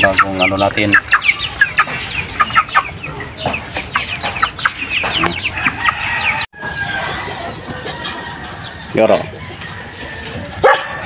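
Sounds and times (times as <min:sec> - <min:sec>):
chickens peeping and clucking: 0:00.0 - 0:11.0.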